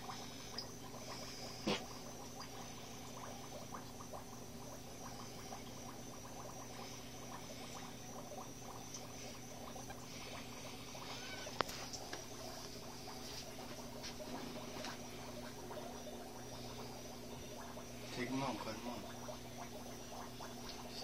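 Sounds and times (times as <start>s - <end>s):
aquarium pump humming: 0.0s - 21.0s
water trickling and bubbling: 0.0s - 21.0s.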